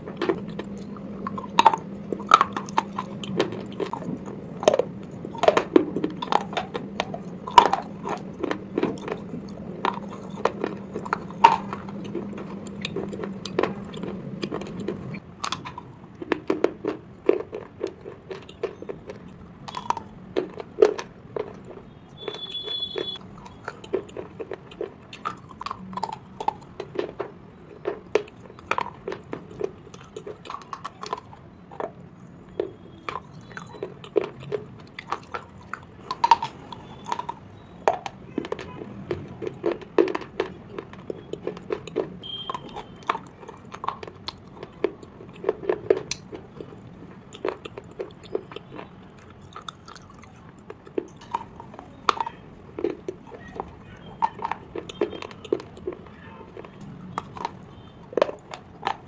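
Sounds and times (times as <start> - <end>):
pencil pieces being chewed: 0.0 - 59.0.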